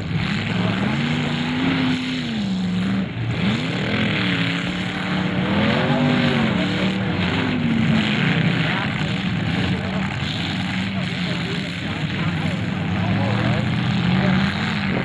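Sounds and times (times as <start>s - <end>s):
car engines revving hard: 0.0s - 15.0s
rumble of other engines: 0.0s - 15.0s.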